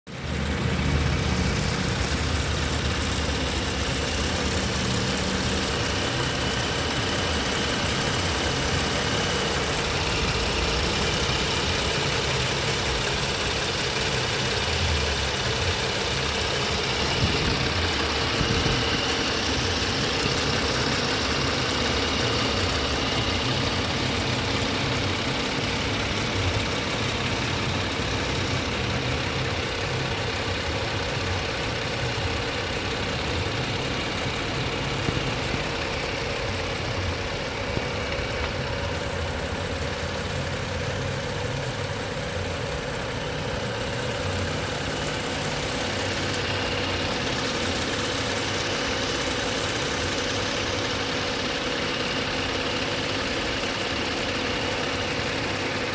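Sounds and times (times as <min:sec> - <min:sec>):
car engine idling: 0:00.1 - 0:55.9.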